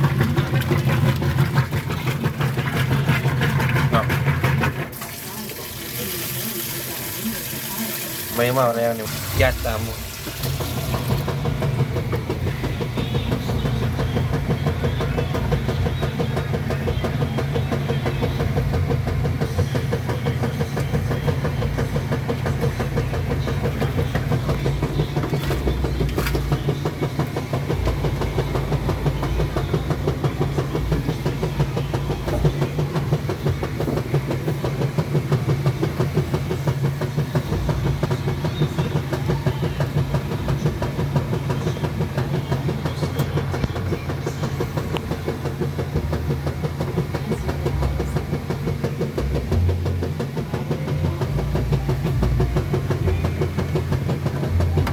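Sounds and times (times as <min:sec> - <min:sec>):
washing machine agitating: 0:00.0 - 0:54.9.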